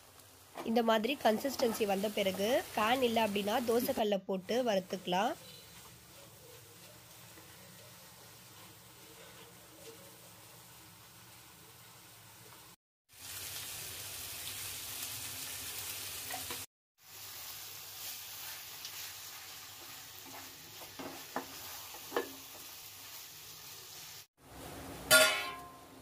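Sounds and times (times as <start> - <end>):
food sizzling in oil: 0.0 - 25.6.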